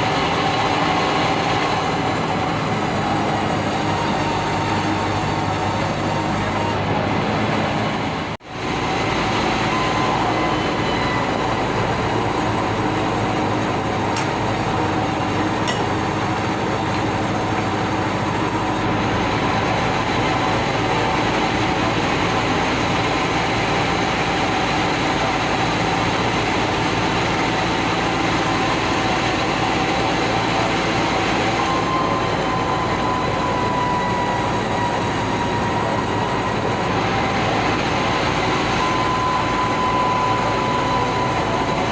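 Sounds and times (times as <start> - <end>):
band saw machinery running: 0.0 - 41.9.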